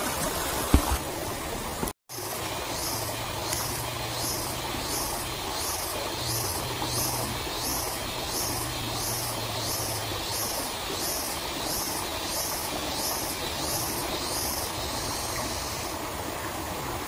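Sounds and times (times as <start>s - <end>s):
stream running over rocks: 0.0s - 17.0s
pulsing insect song: 2.1s - 16.2s.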